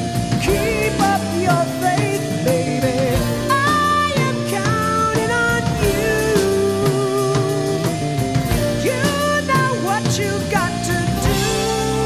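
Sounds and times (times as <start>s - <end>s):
rock music with guitar and drums: 0.0s - 12.0s.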